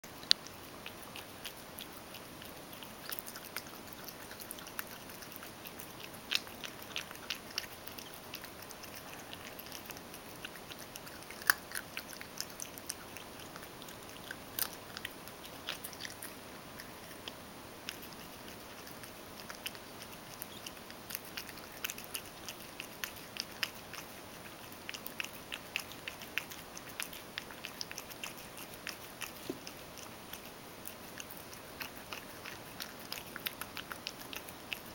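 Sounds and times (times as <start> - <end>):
cat chewing kibble: 0.0 - 34.9.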